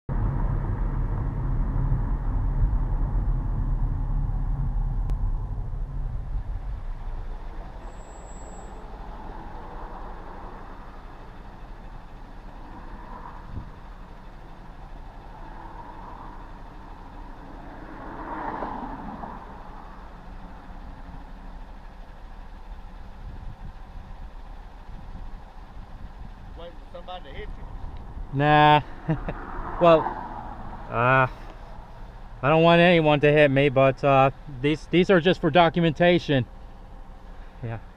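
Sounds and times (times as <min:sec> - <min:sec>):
car engine and tyre rumble: 0:00.1 - 0:37.9.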